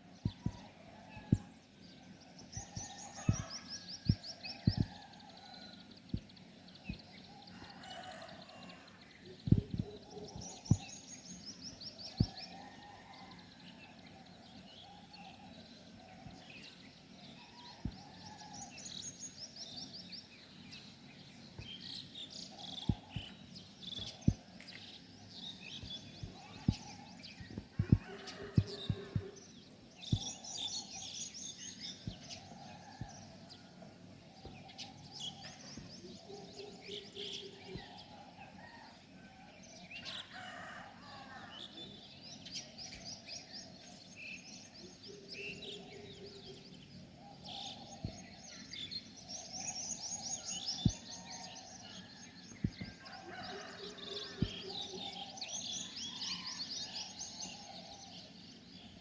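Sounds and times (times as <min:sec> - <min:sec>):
birds chirping and trilling: 0:00.0 - 0:59.0
low repeated bird calls: 0:00.0 - 0:59.0.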